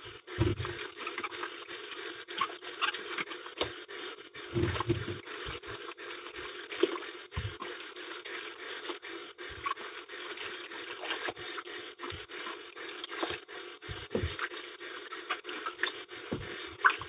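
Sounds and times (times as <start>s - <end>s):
hands scraping and rubbing fruit: 0.0s - 17.0s.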